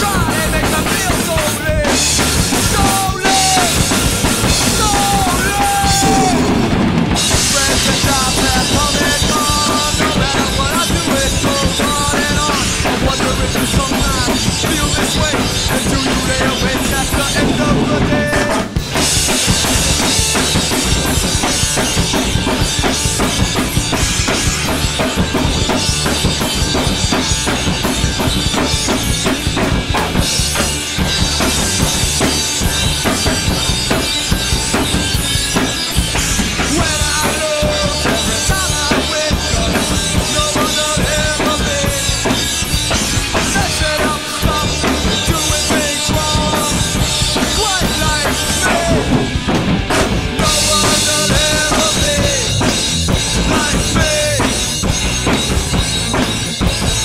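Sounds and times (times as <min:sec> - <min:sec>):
drum kit punk beat: 0:00.0 - 0:57.0
recorded punk song: 0:00.0 - 0:57.0.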